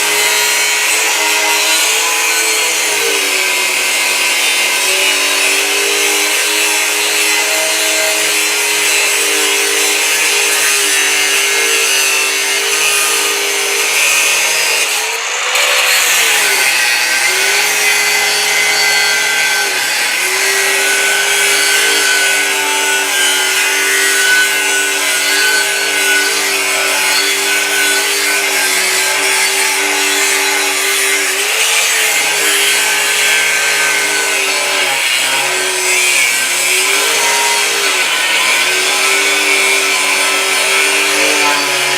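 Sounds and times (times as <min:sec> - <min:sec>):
angle grinder grinding: 0:00.0 - 0:41.9.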